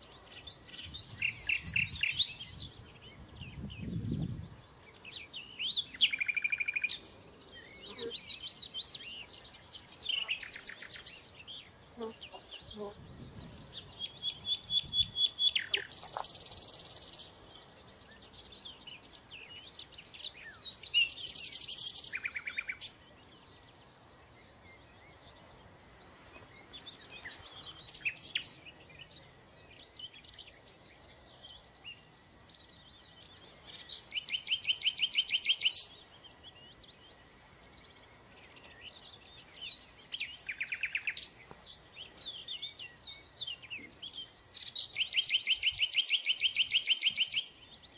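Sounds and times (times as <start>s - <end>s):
songbirds singing: 0.0s - 47.9s.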